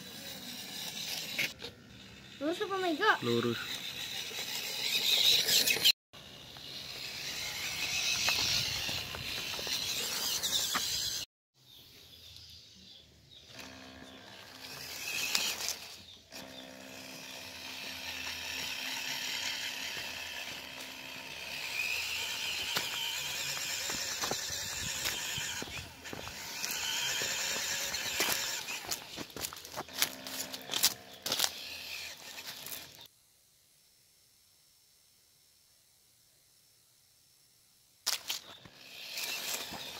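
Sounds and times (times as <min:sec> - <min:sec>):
toy car electric motor whining: 0:00.0 - 0:11.3, 0:13.4 - 0:33.1, 0:38.1 - 0:39.9.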